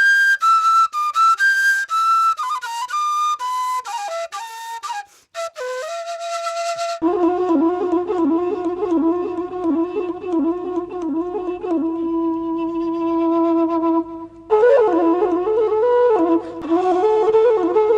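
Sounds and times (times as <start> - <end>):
bamboo flute melody: 0.0 - 17.9
wavering flute over low drone: 0.0 - 17.9.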